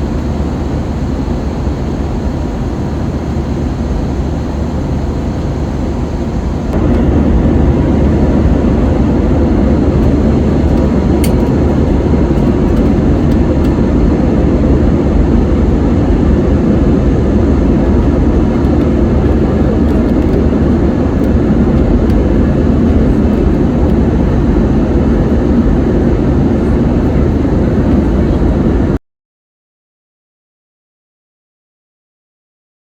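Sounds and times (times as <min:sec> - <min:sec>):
jet engines and airflow drone: 0:00.0 - 0:29.0.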